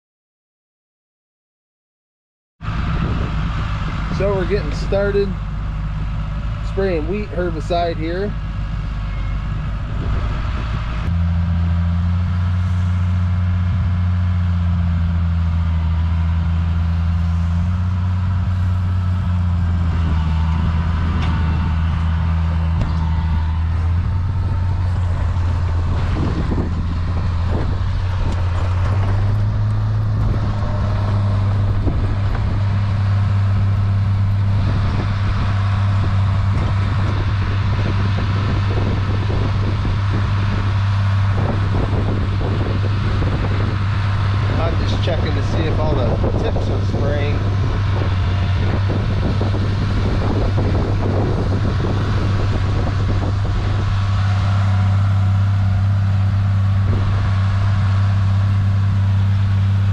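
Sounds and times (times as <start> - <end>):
vehicle engine humming: 2.6 - 59.9.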